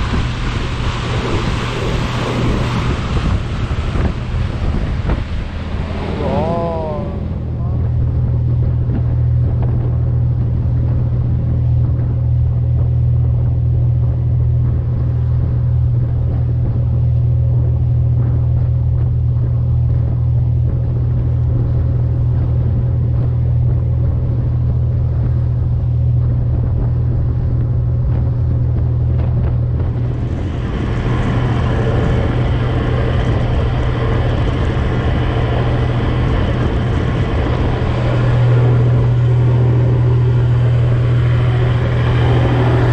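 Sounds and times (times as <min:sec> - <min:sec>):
diesel engine droning: 0:00.0 - 0:42.9
water rushing past hull: 0:00.0 - 0:42.9.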